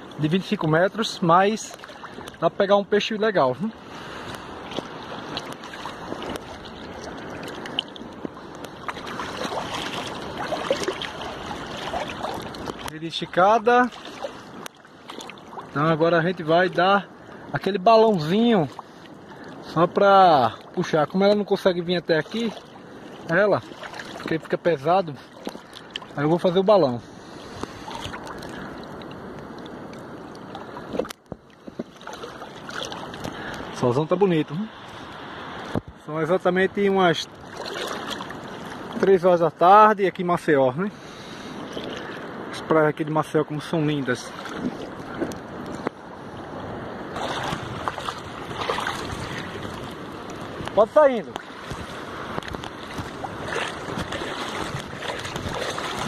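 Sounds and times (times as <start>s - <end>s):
small water splashes: 0.0s - 33.9s, 36.8s - 39.6s, 40.9s - 56.0s
seawater lapping and sloshing: 0.0s - 56.0s.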